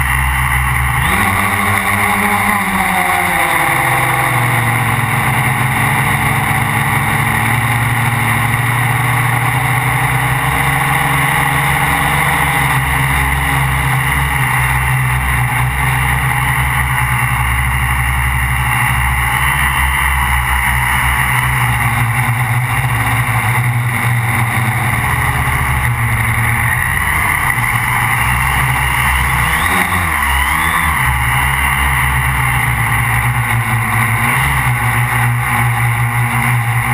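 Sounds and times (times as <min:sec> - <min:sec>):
quadcopter motors droning: 0:00.0 - 0:36.9.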